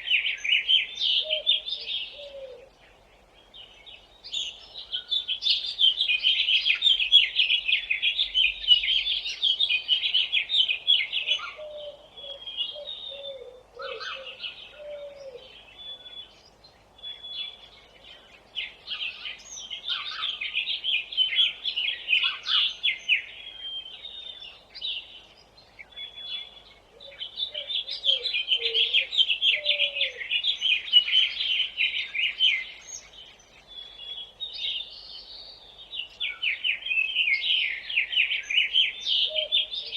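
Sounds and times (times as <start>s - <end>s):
lower falling bird calls: 0.0s - 39.9s
small songbirds chirping: 0.0s - 39.9s.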